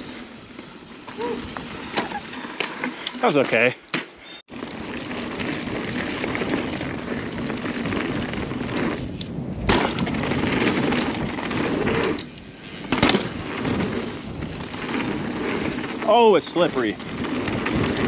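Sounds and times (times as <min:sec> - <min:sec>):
mountain bike rattling on trail: 0:00.0 - 0:03.8, 0:04.5 - 0:18.0.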